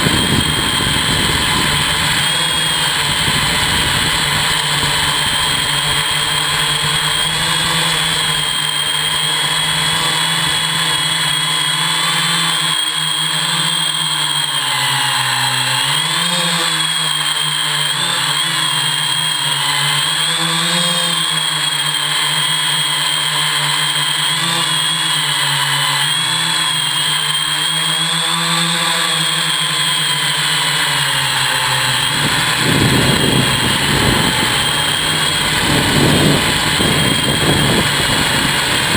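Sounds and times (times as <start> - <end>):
drone motors buzzing whine: 0.0 - 38.9.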